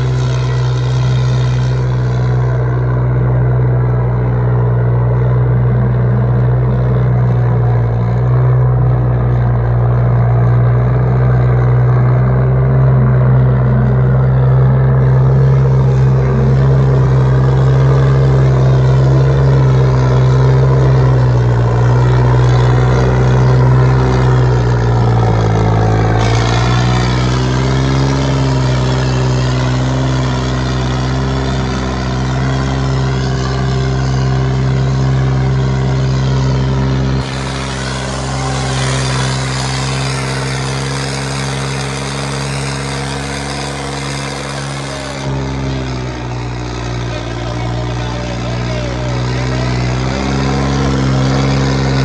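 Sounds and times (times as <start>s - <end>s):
diesel tractor engine revving: 0.0s - 52.0s.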